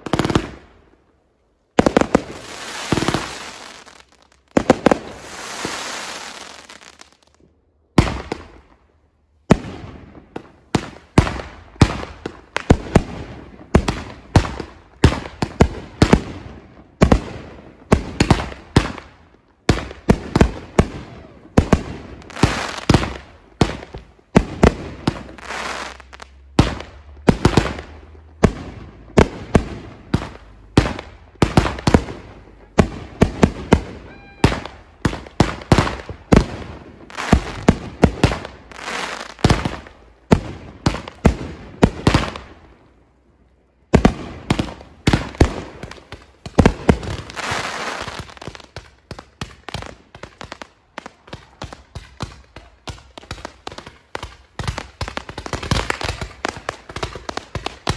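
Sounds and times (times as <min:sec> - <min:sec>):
fireworks bangs echoing: 0:00.0 - 0:00.7, 0:01.7 - 0:07.2, 0:08.0 - 0:08.8, 0:09.5 - 0:42.8, 0:43.9 - 0:57.9.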